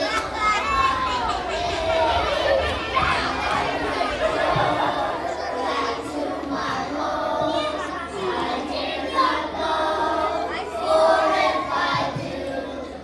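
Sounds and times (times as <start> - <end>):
children chattering: 0.0 - 13.0
young children singing: 0.0 - 13.0.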